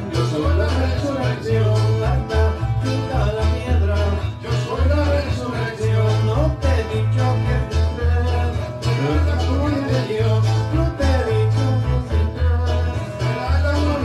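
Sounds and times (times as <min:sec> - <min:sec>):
electronic keyboard bass notes: 0:00.0 - 0:14.0
strummed acoustic guitar: 0:00.0 - 0:14.0.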